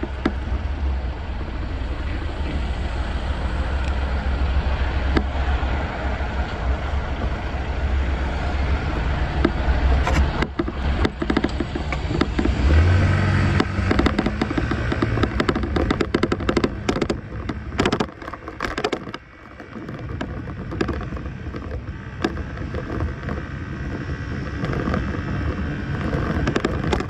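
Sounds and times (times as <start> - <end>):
road noise: 0.0 - 27.0
scooter engine: 0.0 - 27.0
wind rumble on microphone: 0.0 - 27.0.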